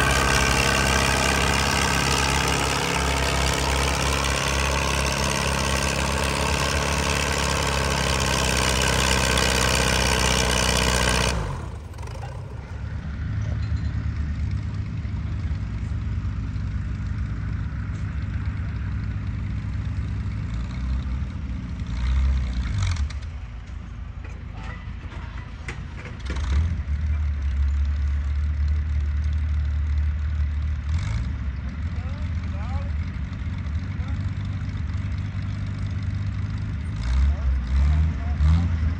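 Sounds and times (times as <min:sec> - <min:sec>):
distant tractor engine: 0:00.0 - 0:38.9
tractor engine running at low speed: 0:00.0 - 0:38.9.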